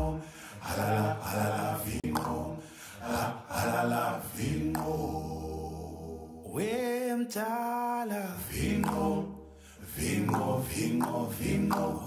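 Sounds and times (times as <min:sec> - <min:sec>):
a cappella singing: 0:00.0 - 0:12.0.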